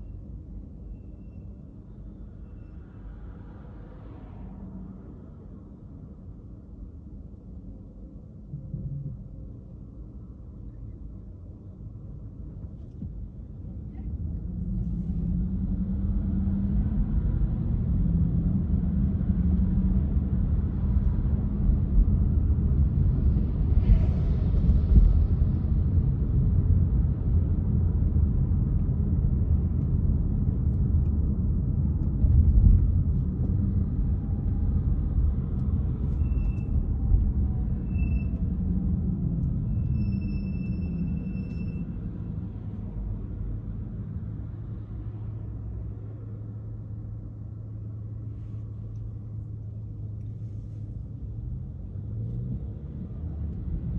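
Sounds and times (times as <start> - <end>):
car engine and tyres on road: 0.0 - 53.9.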